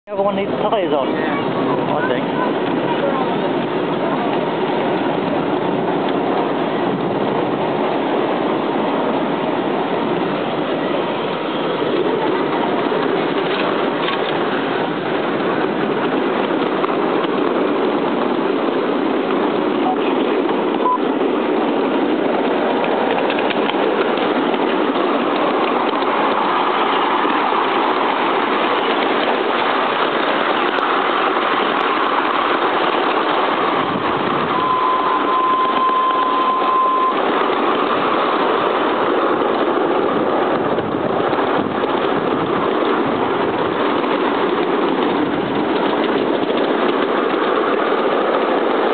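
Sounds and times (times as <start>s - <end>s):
wheels running on rails: 0.0s - 48.9s
steam locomotive chuffing: 0.1s - 48.9s.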